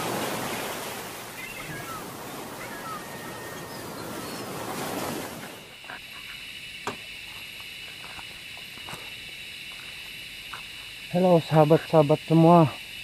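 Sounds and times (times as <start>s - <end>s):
insect chorus: 0.0s - 13.0s
rushing surf-like noise: 0.0s - 13.0s.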